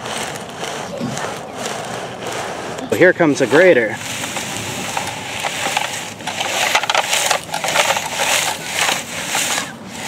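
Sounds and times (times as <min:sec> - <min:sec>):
sand scraping under toy grader: 0:00.0 - 0:10.0.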